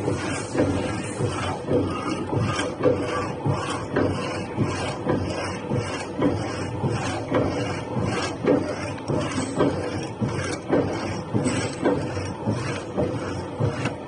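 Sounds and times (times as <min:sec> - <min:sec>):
power hacksaw sawing metal: 0:00.0 - 0:13.9.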